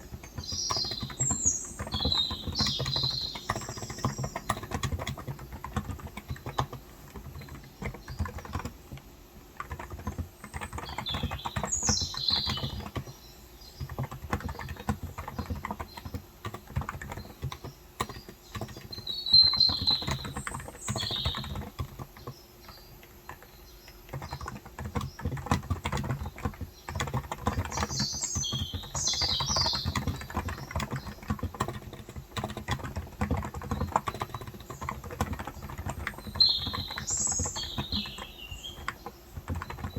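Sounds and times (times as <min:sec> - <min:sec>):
birds chirping: 0:00.0 - 0:39.9
typing on keyboard: 0:00.0 - 0:39.9.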